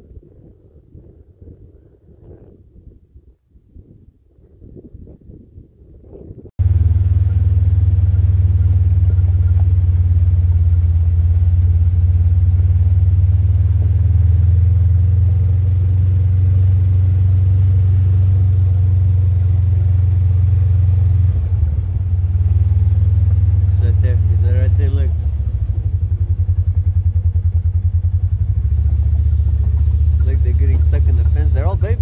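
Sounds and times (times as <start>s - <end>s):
vehicle engine and tyres rumbling: 6.3s - 32.0s.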